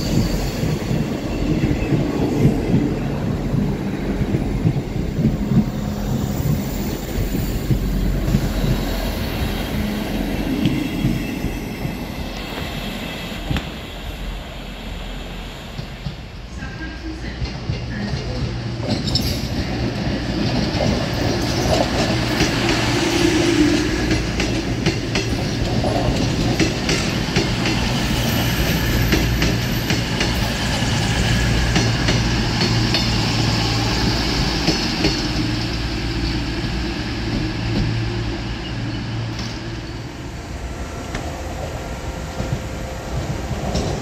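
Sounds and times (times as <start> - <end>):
train low drone: 0.0 - 44.0.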